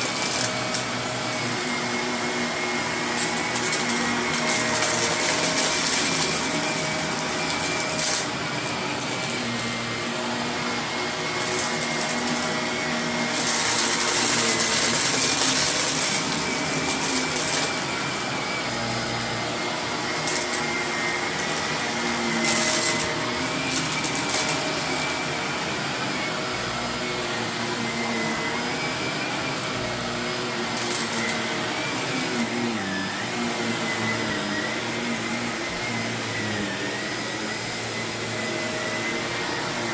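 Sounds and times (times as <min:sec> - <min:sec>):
vacuum cleaner running: 0:00.0 - 0:39.9
vacuum sucking up debris: 0:00.0 - 0:39.9.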